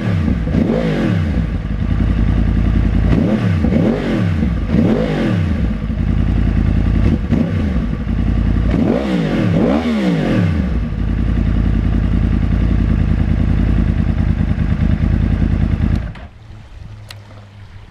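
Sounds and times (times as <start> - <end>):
motorcycle engine revving and idling: 0.0 - 16.3.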